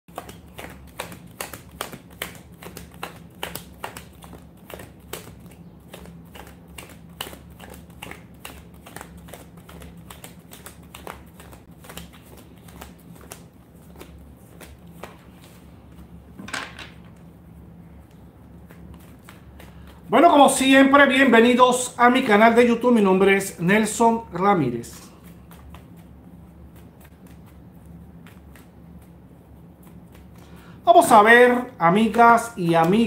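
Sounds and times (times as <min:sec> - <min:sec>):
steady low hum: 0:00.1 - 0:33.0.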